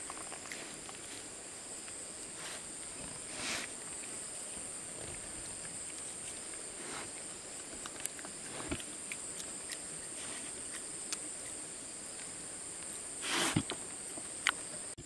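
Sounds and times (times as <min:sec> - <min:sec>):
rustle: 0:00.0 - 0:15.0.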